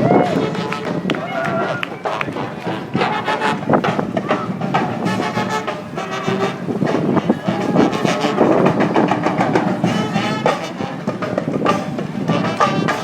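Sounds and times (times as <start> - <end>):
brass band horns: 0.0 - 13.0
drum beats: 0.0 - 13.0.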